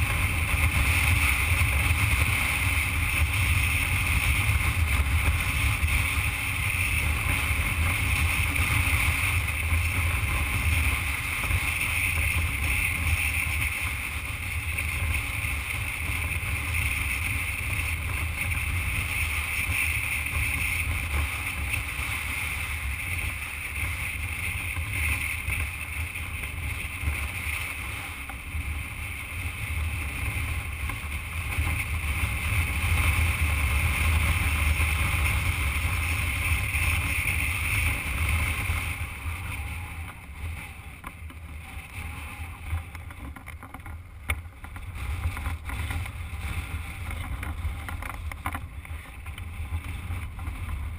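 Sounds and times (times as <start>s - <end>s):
motorcycle engine cruising: 0.0s - 50.9s
wind noise on microphone: 0.0s - 50.9s.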